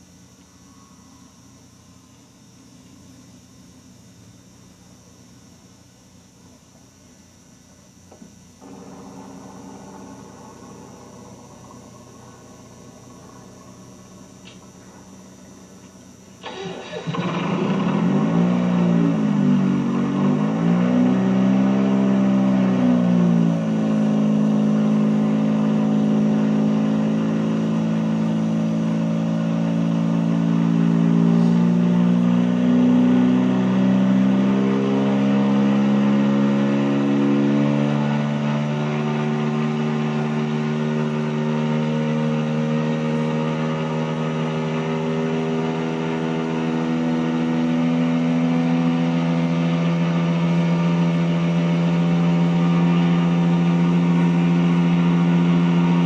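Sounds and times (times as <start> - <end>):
rotary aircraft engine running: 8.6 - 56.0.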